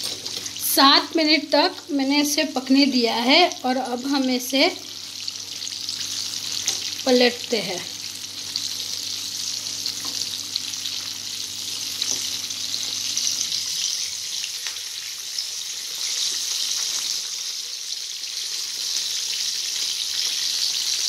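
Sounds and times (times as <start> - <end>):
oil sizzling while deep-frying: 0.0 - 21.0.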